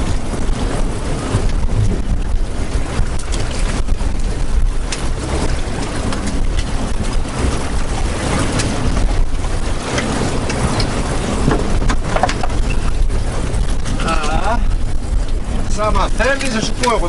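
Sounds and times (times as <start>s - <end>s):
water washing against hull: 0.0s - 17.0s
wind buffeting microphone: 0.0s - 17.0s.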